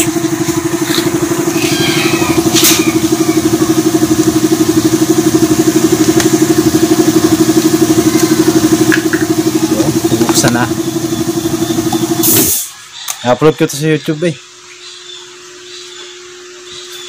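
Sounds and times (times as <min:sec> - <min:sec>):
small motorcycle engine idling: 0:00.0 - 0:17.0.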